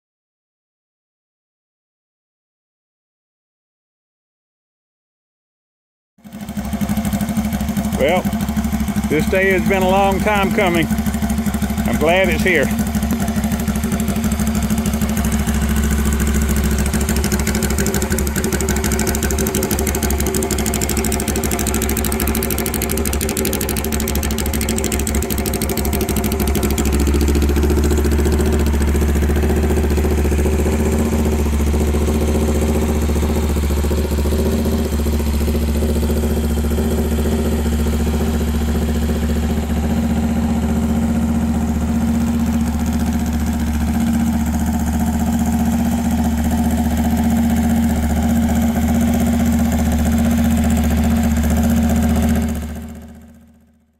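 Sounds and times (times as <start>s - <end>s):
motorcycle engine idling: 6.2s - 53.9s.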